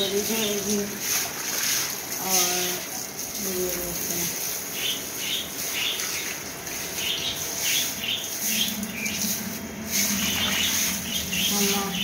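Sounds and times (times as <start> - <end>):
hose water splashing on stone: 0.0 - 12.0
birds chirping: 2.2 - 12.0.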